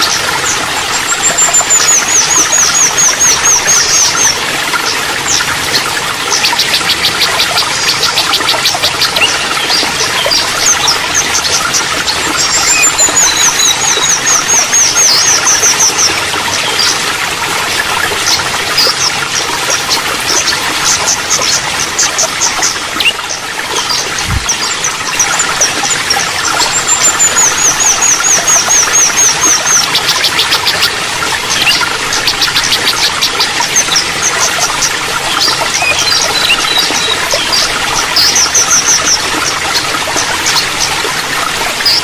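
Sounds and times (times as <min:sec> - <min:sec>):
water trickling: 0:00.0 - 0:42.0.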